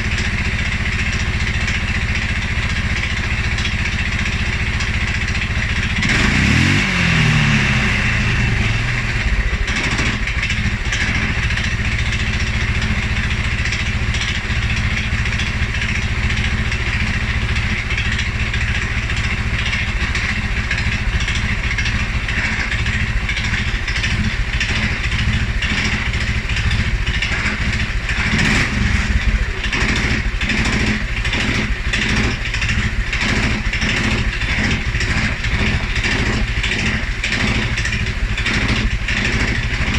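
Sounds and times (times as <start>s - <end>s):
atv engine idling roughly: 0.0s - 39.9s.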